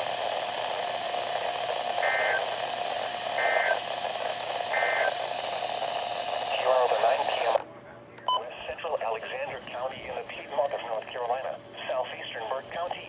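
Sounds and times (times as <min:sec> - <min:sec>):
radio hiss: 0:00.0 - 0:07.6, 0:08.2 - 0:13.0.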